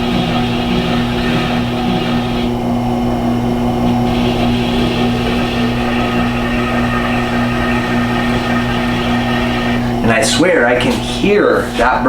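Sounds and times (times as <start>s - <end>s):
sharpener motor running: 0.0s - 10.3s
blade hissing on honing wheel: 0.0s - 10.5s.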